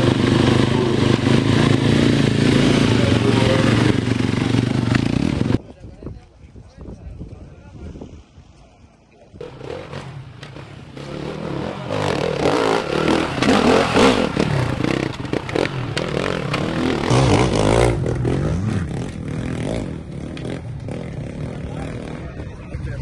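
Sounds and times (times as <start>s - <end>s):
dirt-bike engines revving: 0.0s - 5.6s, 9.4s - 23.0s.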